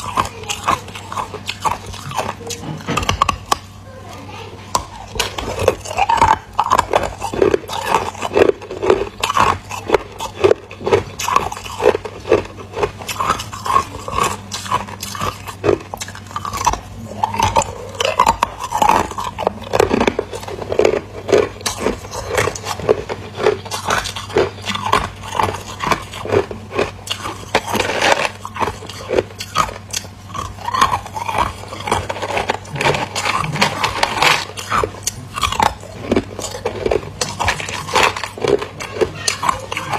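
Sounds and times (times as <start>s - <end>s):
person crunching ice: 0.0s - 3.6s, 4.8s - 39.9s.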